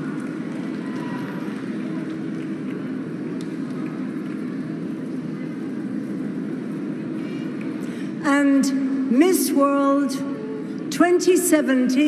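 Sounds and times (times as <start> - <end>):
steady low-pitched noise: 0.0 - 12.0.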